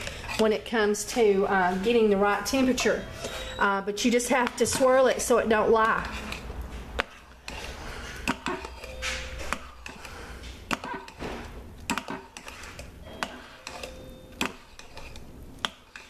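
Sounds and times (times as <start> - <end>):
metal spoon scraping ceramic pot: 0.0 - 16.0.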